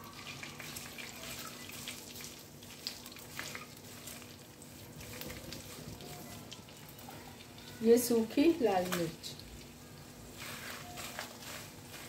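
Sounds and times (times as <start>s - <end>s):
nuts sizzling in hot oil: 0.0s - 12.0s
spatula stirring: 0.0s - 12.0s
small crackles and pops: 0.5s - 12.0s.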